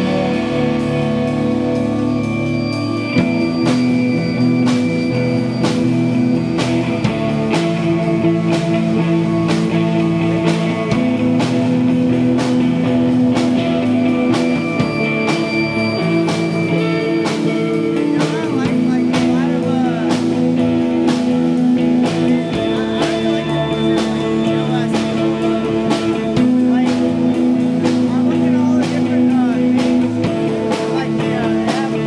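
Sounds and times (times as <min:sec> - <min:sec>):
bass guitar: 0:00.0 - 0:32.0
drum and cymbal hits: 0:00.0 - 0:32.0
electric guitars sustained notes: 0:00.0 - 0:32.0.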